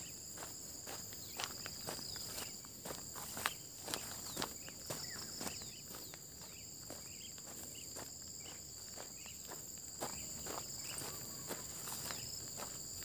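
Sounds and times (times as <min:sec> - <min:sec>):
footsteps on dirt path: 0:00.0 - 0:13.0
insects droning: 0:00.0 - 0:13.0.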